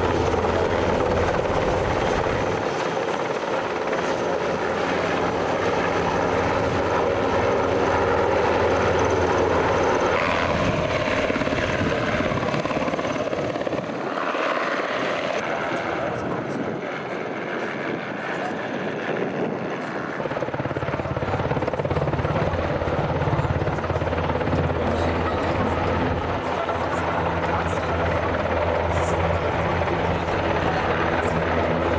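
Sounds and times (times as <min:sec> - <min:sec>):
aircraft engine noise: 0:00.0 - 0:31.9.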